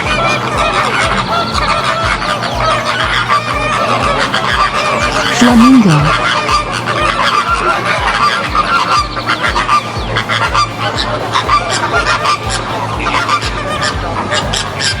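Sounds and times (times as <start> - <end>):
flamingos honking: 0.0 - 15.0.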